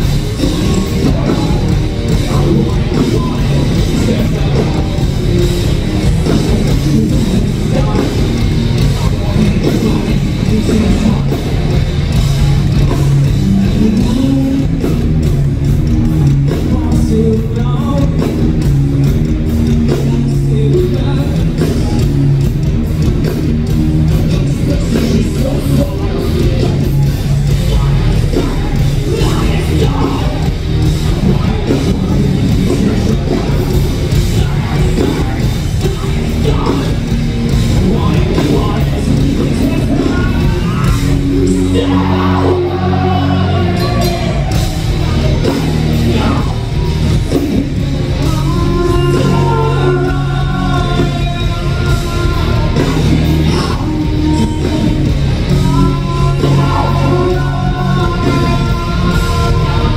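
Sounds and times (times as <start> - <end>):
bass: 0.0 - 59.9
distorted electric guitars: 0.0 - 59.9
drums: 0.0 - 59.9
male lead vocal: 0.0 - 59.9.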